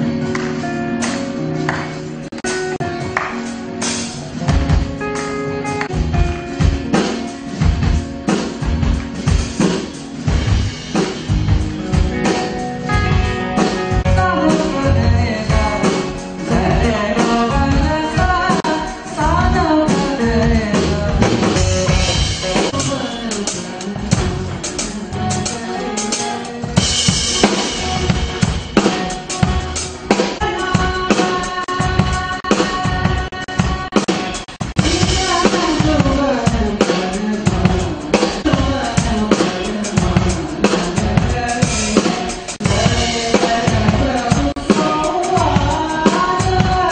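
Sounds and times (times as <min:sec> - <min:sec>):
bass guitar: 0:00.0 - 0:46.9
drum kit beating: 0:00.0 - 0:46.9
electric guitar: 0:00.0 - 0:46.9.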